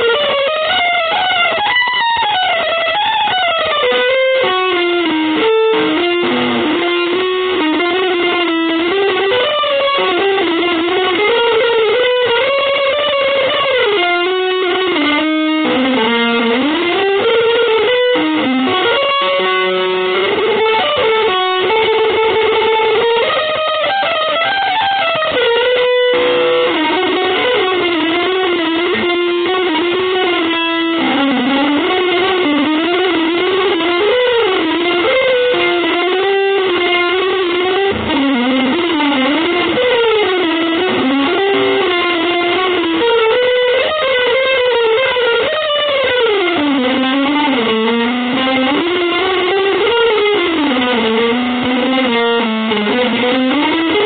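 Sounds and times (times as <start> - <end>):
electric guitar melody: 0.0 - 54.0.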